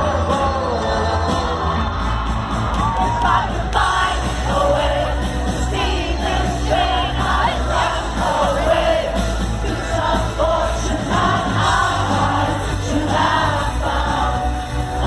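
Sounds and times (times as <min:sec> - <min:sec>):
crowd singing along: 0:00.0 - 0:15.0
heavy bass line: 0:00.0 - 0:15.0
live rock band playing: 0:00.0 - 0:15.0
sung vocals: 0:00.0 - 0:15.0.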